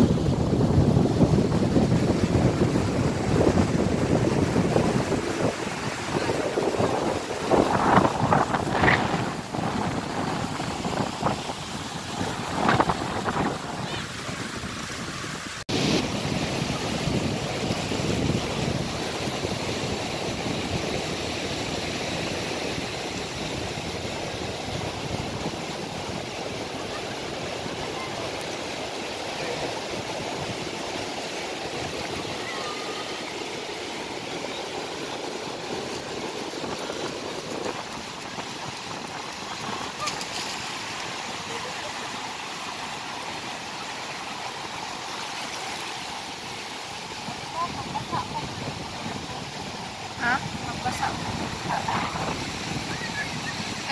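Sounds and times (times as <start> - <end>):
wind gusting on microphone: 0.0 - 43.4, 46.0 - 53.9
surf breaking on beach: 0.0 - 53.9.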